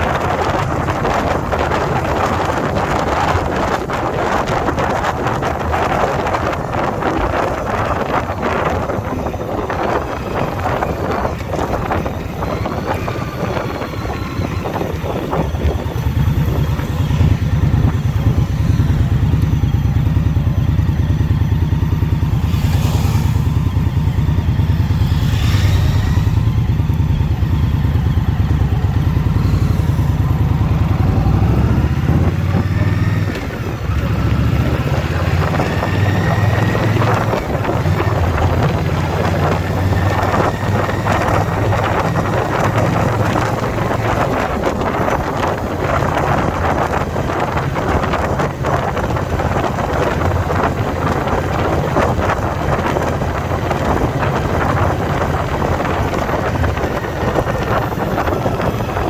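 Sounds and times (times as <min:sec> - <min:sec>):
motorcycle engine running on the road: 0:00.0 - 0:59.0.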